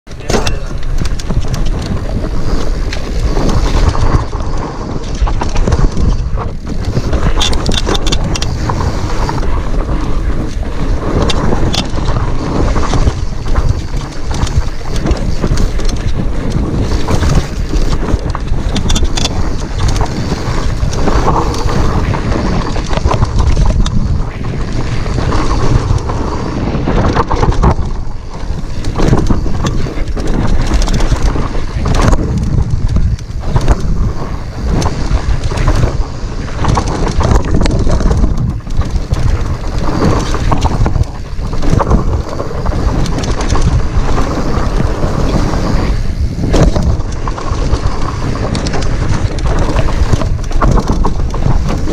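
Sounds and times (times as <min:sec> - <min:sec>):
wind buffeting microphone: 0:00.0 - 0:51.9
bike knocks and rattles: 0:00.1 - 0:51.9.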